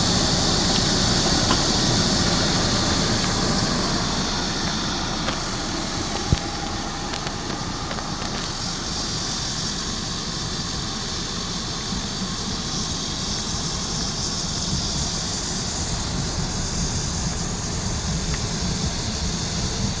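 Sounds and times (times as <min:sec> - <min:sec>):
constant hiss: 0:00.0 - 0:20.0
engine idling: 0:00.0 - 0:20.0.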